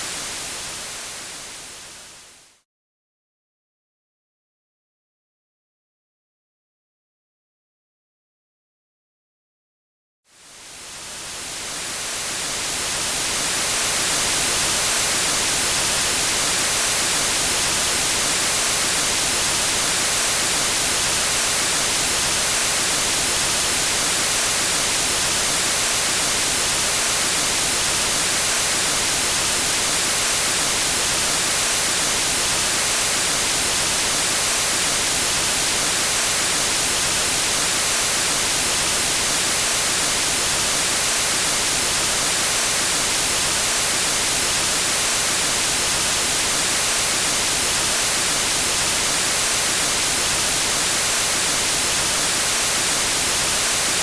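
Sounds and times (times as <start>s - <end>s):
white noise hiss: 0.0s - 2.5s, 10.4s - 54.0s.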